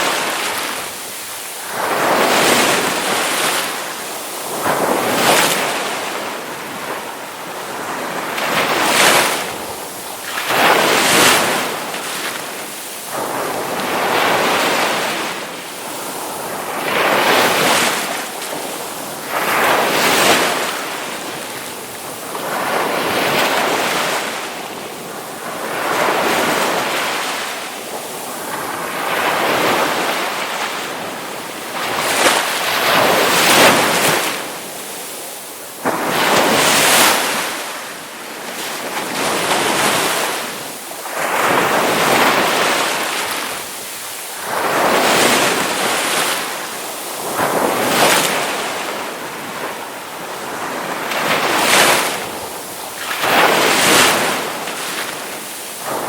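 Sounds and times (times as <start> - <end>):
ocean waves crashing: 0.0 - 56.0.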